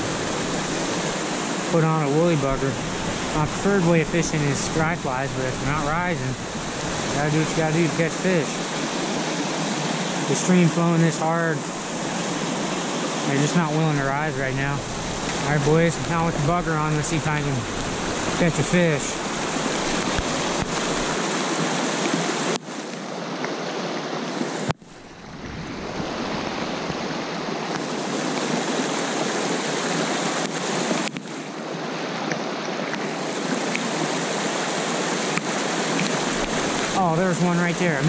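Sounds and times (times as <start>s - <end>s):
creek rushing over rocks: 0.0s - 38.0s.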